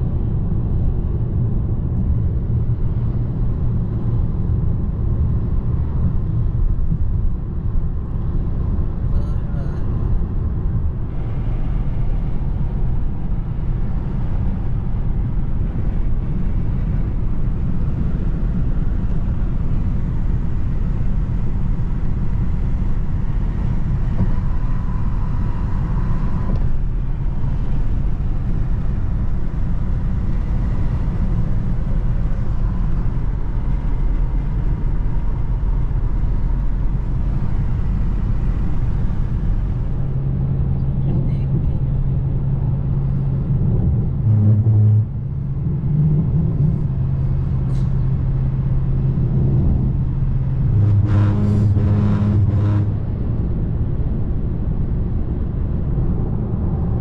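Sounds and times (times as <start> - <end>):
car cabin road and engine noise: 0.0 - 57.0.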